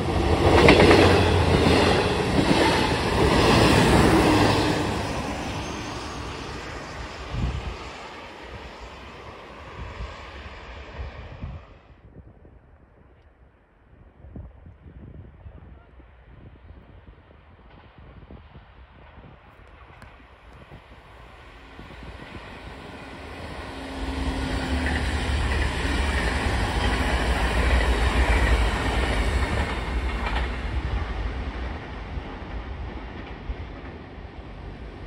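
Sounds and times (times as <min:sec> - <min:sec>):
train passing at speed: 0:00.0 - 0:12.1, 0:16.6 - 0:35.0.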